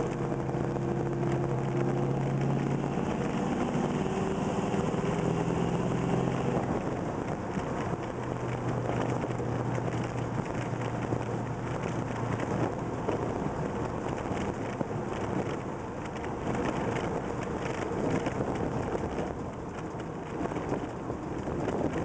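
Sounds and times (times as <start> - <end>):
car engine running: 0.0 - 22.0
road and wind noise: 0.0 - 22.0.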